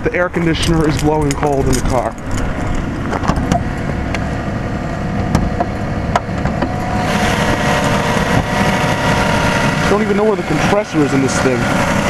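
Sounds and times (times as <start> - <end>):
car engine idling: 0.0 - 12.0
whining tones: 0.0 - 12.0.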